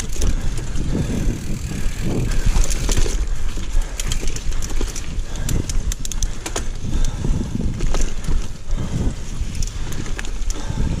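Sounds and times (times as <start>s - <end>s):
bike clicks and rattles: 0.0s - 11.0s
wind on microphone: 0.0s - 11.0s.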